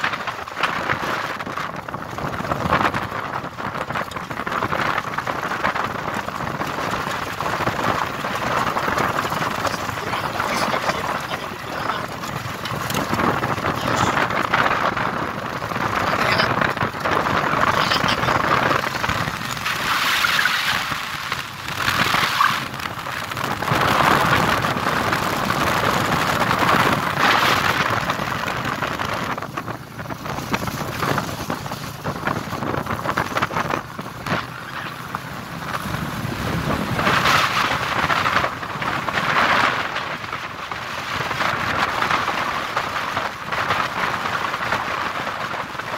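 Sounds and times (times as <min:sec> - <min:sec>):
motorcycle engine: 0:00.0 - 0:45.9
tyres on gravel: 0:00.0 - 0:45.9
wind on microphone: 0:00.0 - 0:45.9.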